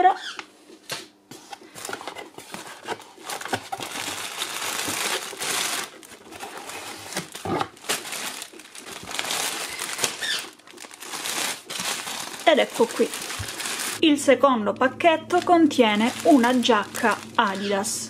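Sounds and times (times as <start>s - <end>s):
plastic bag crinkling: 1.6s - 14.0s, 15.3s - 18.0s.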